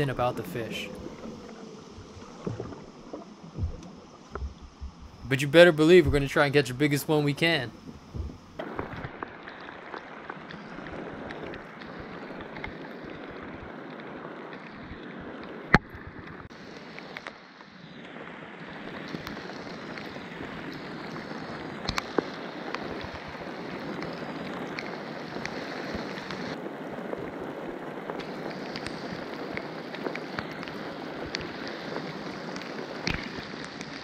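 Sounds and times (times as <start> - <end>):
rain falling on lake: 0.0 - 34.0.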